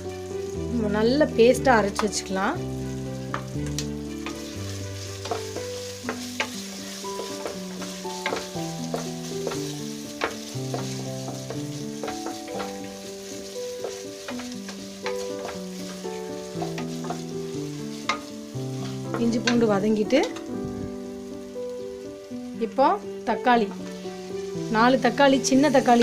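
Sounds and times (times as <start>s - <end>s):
background music with held notes: 0.0s - 26.0s
masala sizzling in hot oil: 0.0s - 26.0s.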